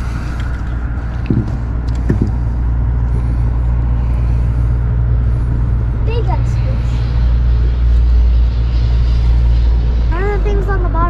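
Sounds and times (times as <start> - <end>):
fish drumming low hum: 0.0 - 11.0.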